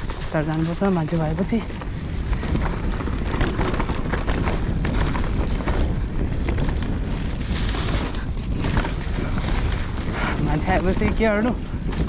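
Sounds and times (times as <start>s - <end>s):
bike rattling over rough ground: 0.0s - 12.0s
bike tyres rumbling: 0.0s - 12.0s
wind buffeting microphone: 0.0s - 12.0s.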